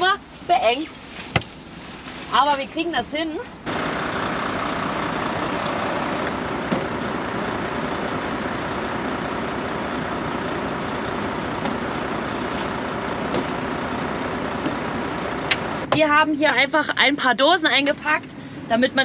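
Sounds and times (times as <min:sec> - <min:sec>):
engine idling: 0:03.1 - 0:19.0.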